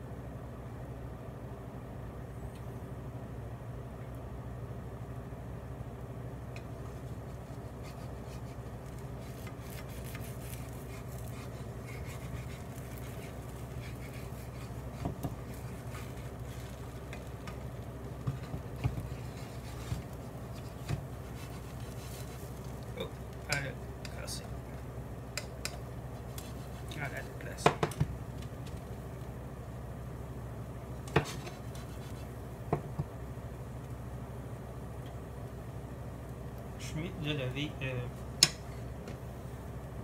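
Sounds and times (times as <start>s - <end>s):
low steady hum: 0.0s - 40.0s
batter cooking in a frying pan: 2.9s - 40.0s.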